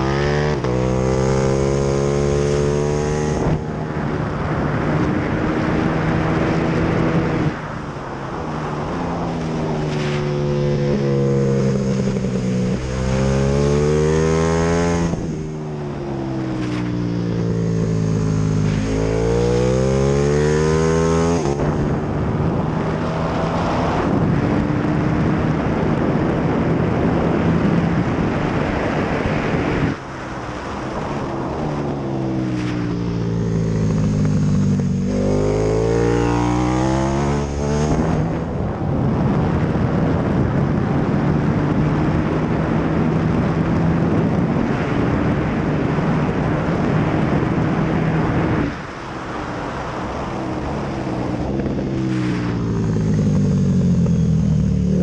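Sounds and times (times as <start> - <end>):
motorcycle engine at racing speed: 0.0 - 55.0.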